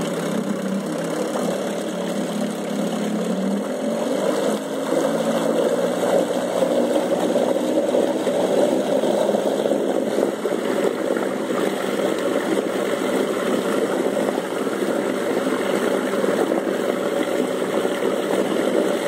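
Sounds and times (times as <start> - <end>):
outboard motor running: 0.0 - 19.0
propeller churning water: 0.0 - 19.0.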